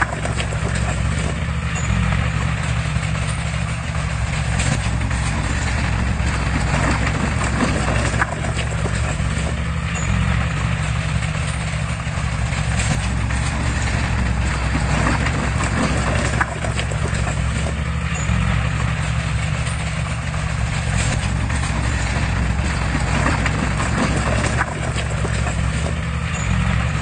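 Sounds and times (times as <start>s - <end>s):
clicks and clatter: 0.0s - 27.0s
heavy diesel engine droning: 0.0s - 27.0s.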